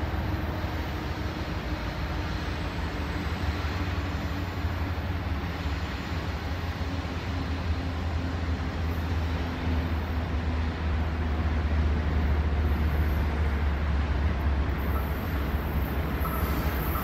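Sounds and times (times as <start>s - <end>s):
diesel locomotive engine rumble: 0.0s - 17.0s
train track noise: 0.0s - 17.0s.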